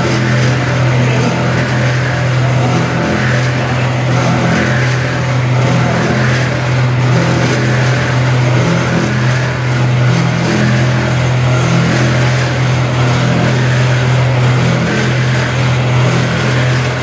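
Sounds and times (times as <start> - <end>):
machinery low hum: 0.0 - 17.0.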